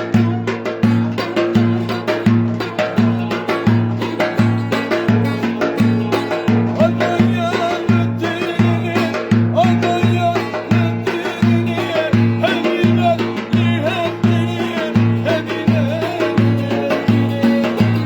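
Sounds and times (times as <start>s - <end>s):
bouncing bass pattern: 0.0s - 18.0s
ornamented lead melody: 0.0s - 18.0s.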